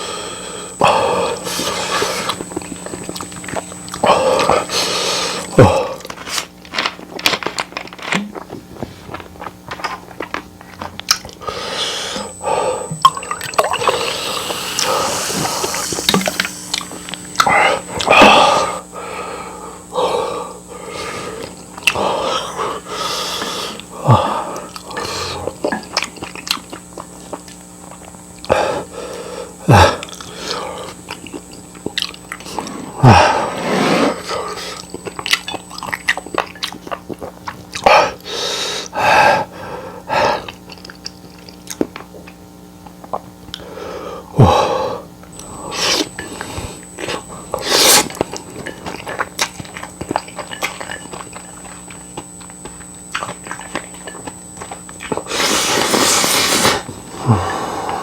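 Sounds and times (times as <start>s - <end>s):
person chewing and biting: 1.3s - 18.8s, 21.1s - 28.6s, 29.8s - 38.6s, 40.3s - 43.6s, 45.3s - 58.0s.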